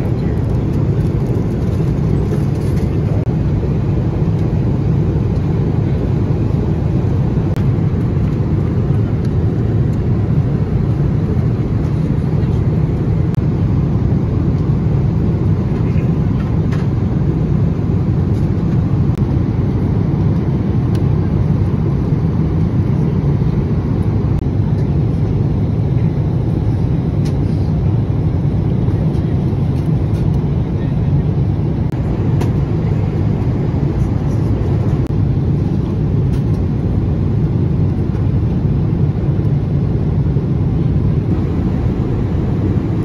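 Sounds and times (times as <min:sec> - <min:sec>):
jet cabin rumble: 0:00.0 - 0:43.0.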